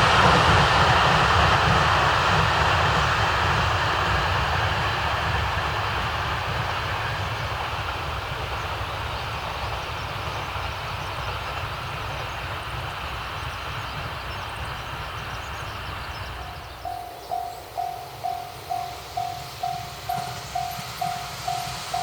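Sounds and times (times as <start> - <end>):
train wheel and track rumble: 0.0 - 22.0.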